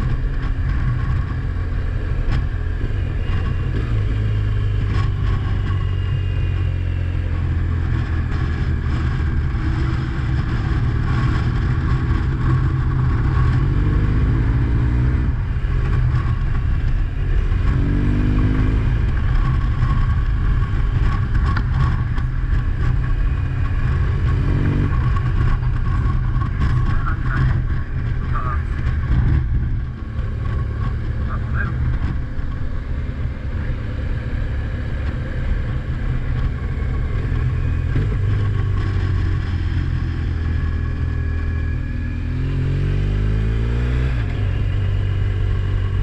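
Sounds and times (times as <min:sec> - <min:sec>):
vehicle engine and road rumble: 0:00.0 - 0:46.0.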